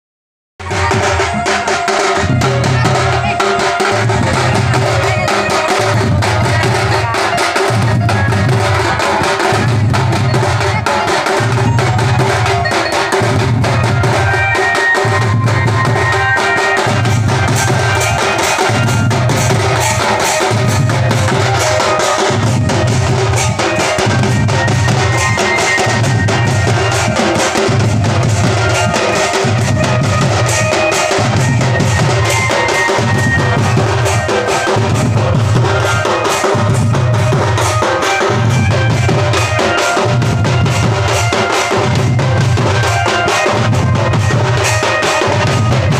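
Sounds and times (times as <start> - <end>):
barrel drums beating: 0.6 - 45.9
deep drum beat: 0.6 - 45.9.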